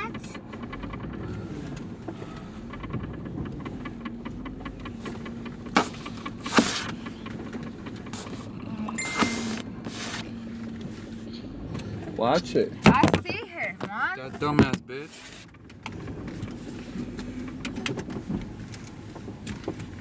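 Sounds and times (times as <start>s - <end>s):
car interior hum: 0.0s - 20.0s.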